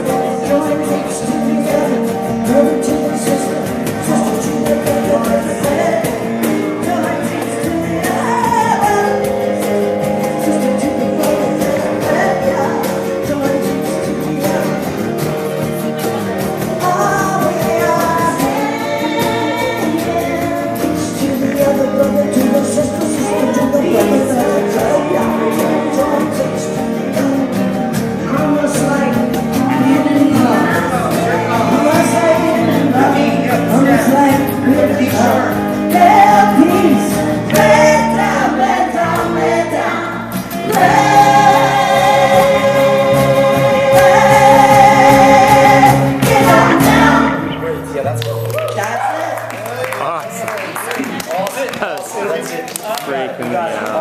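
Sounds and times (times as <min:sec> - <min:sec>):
person singing: 0:00.0 - 0:15.2, 0:16.6 - 0:48.0
guitar accompaniment: 0:00.0 - 0:54.0.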